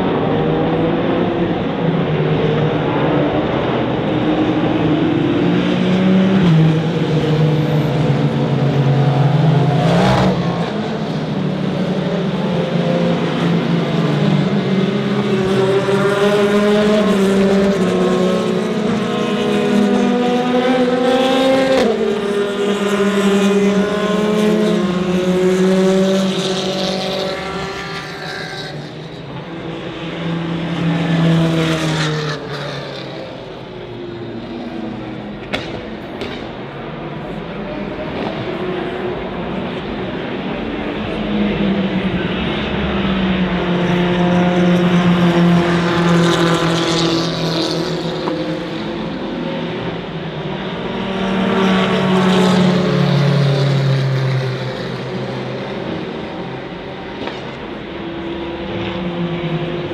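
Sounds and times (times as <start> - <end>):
race car engines at high revs: 0.0 - 59.9.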